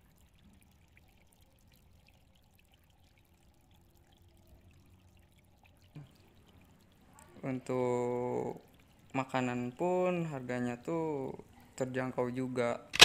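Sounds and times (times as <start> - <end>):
faint trickling water: 0.0 - 13.0.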